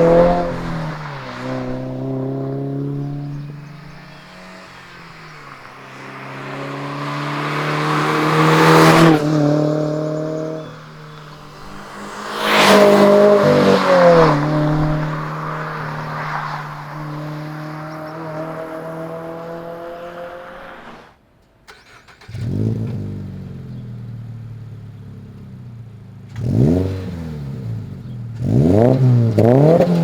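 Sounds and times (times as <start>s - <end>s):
car exhaust idling and revving: 0.0s - 20.0s, 22.4s - 30.0s.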